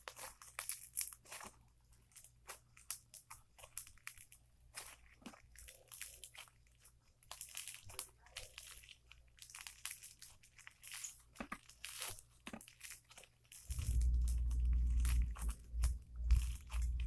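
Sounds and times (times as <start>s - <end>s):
slime crackling and popping: 0.0s - 17.0s.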